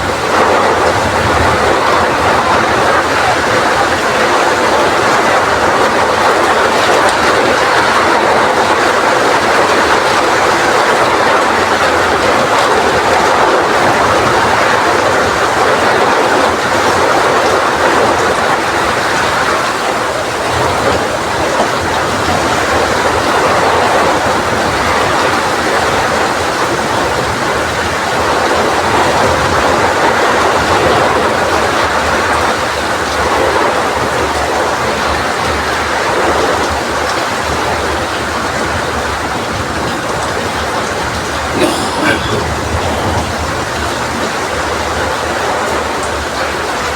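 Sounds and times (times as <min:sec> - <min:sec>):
heavy rain in strong wind: 0:00.0 - 0:46.9.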